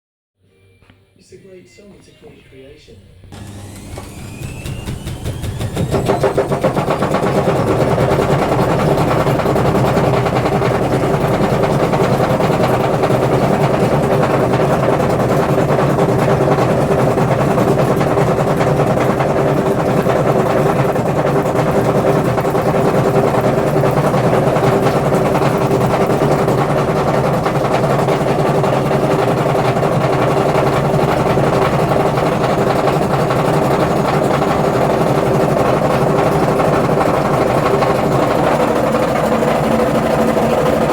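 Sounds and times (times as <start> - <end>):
washing machine rattling on spin: 3.4 - 40.9.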